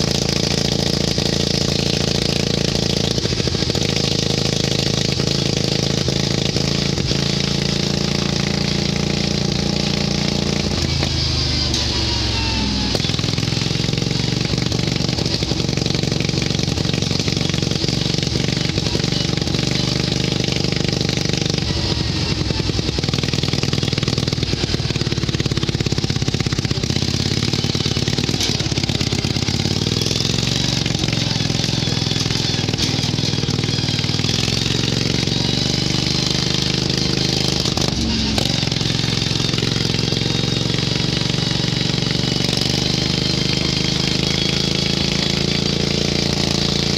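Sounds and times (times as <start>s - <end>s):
garden tractor engine under load: 0.0s - 46.9s.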